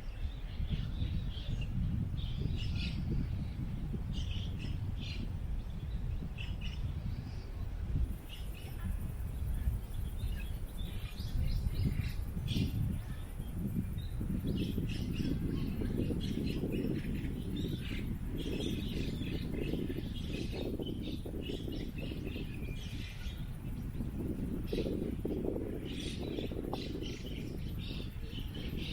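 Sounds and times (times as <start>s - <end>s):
gusting wind rumble: 0.0s - 28.9s
small birds chirping: 0.0s - 28.9s.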